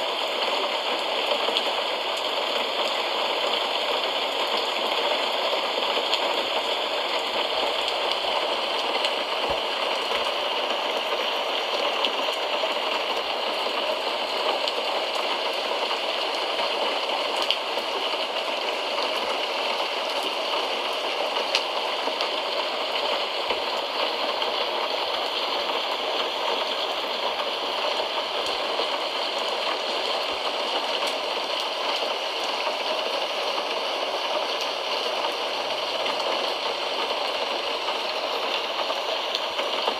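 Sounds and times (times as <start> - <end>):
steady rain hiss: 0.0 - 39.9
rain drop ticks: 0.1 - 39.9.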